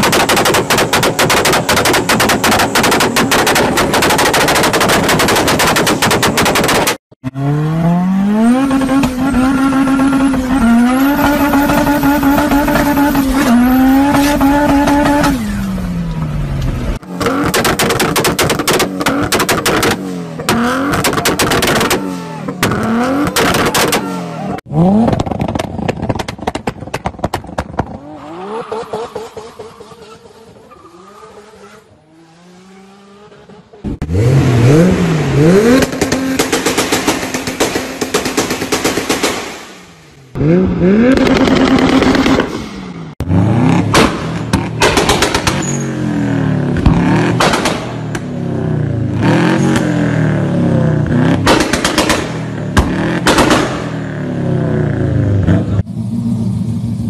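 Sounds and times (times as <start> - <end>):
exhaust pops and backfires: 0.0 - 7.4, 8.3 - 30.8, 33.5 - 57.0
engine revving: 0.0 - 26.0, 27.8 - 57.0.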